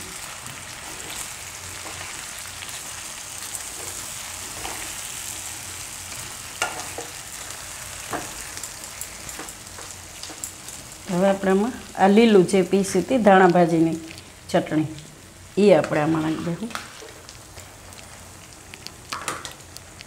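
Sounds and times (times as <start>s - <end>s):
potatoes sizzling in a pan: 0.0s - 20.0s.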